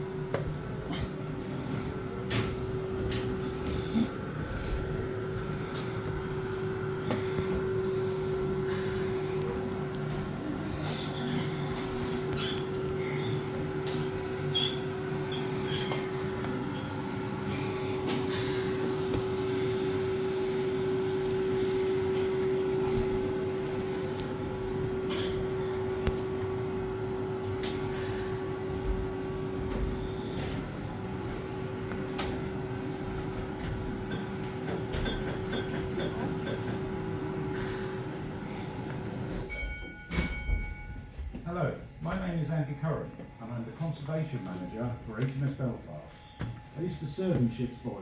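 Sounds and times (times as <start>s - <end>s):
machinery drone with hum: 0.0s - 48.0s.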